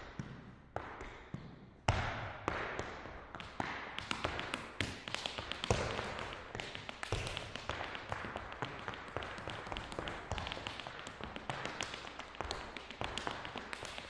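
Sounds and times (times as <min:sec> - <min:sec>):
hard shoes tapping on floor: 0:00.1 - 0:14.0.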